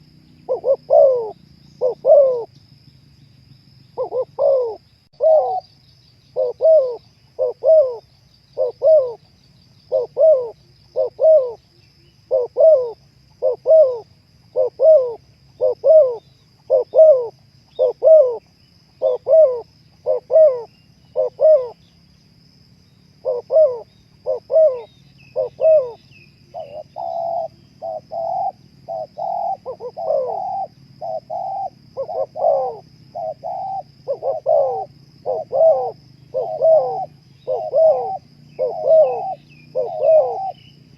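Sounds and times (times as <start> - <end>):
dove cooing: 0.0 - 2.5, 4.0 - 21.9, 23.2 - 40.9.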